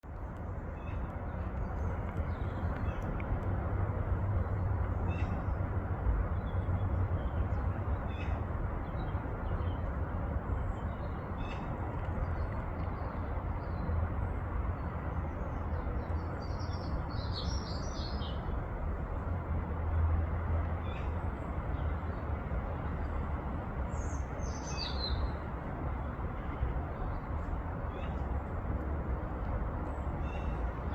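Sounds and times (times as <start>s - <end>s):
low rushing background noise: 0.1s - 30.9s.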